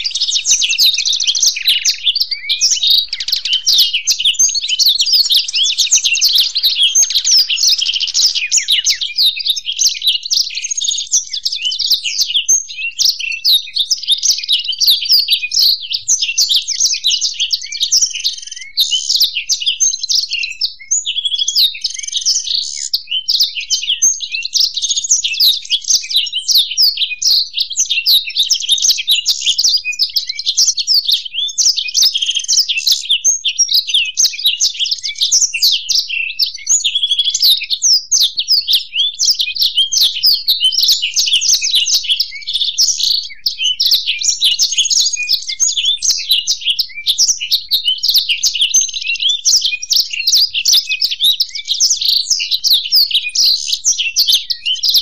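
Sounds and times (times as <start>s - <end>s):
songbirds twittering: 0.0s - 55.0s.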